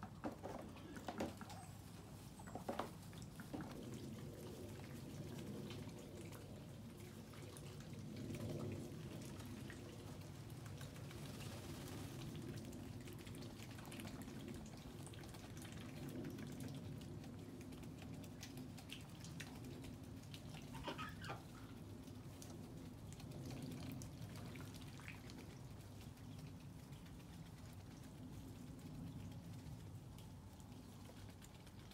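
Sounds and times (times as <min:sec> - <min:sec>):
light rain patter: 0:00.0 - 0:31.9
low background rumble: 0:00.0 - 0:31.9.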